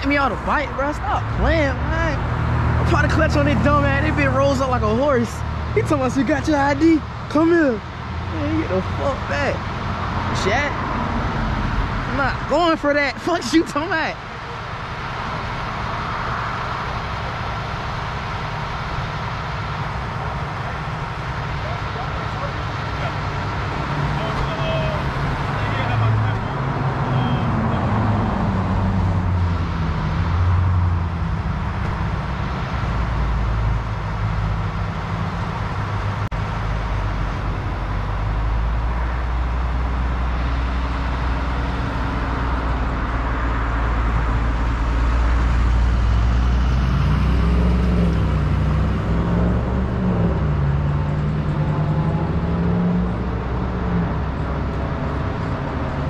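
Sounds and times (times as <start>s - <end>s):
vehicle engines rumbling: 0.0s - 56.0s.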